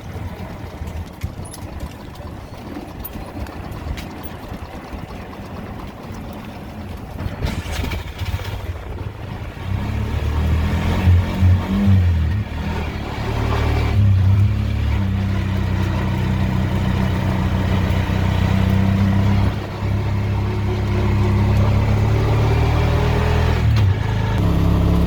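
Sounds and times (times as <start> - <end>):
motor engine rumbling: 0.0 - 25.0.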